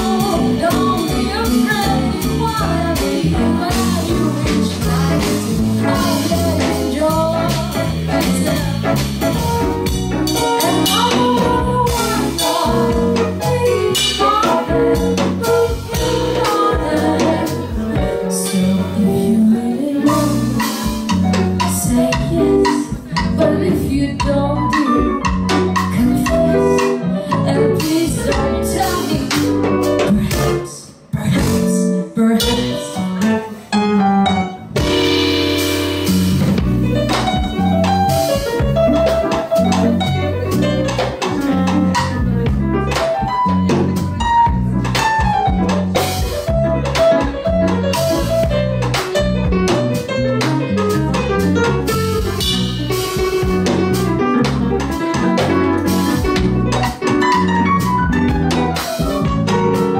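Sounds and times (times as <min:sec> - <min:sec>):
bass guitar: 0:00.0 - 0:59.9
drums with steady beat: 0:00.0 - 0:59.9
stage keyboard: 0:00.0 - 0:59.9.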